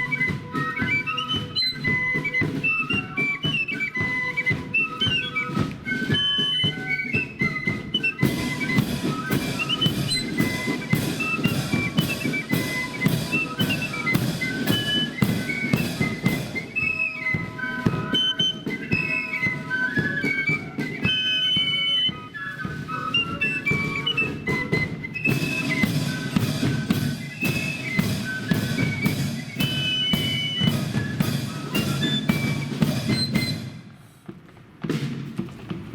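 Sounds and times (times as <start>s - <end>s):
flutes playing melody: 0.0s - 33.9s
bass and snare drums: 0.0s - 35.9s.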